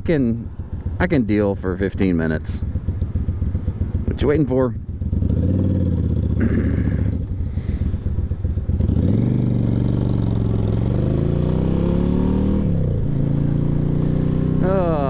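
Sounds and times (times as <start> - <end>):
motorcycle engine accelerating: 0.2 - 15.0.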